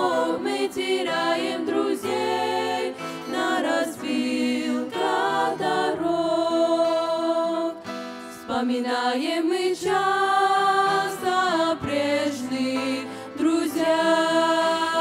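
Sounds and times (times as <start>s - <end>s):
girls singing a hymn: 0.0s - 15.0s.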